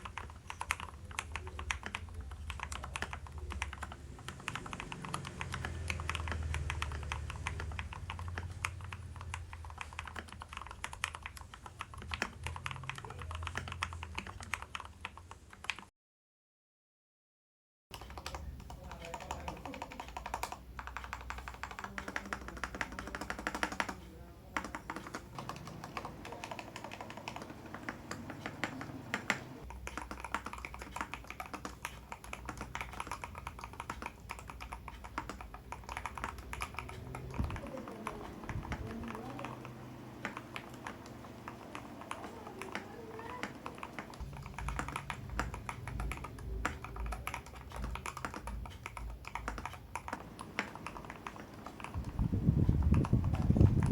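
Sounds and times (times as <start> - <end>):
fast typing on mechanical keyboard: 0.0 - 15.9, 17.9 - 53.9.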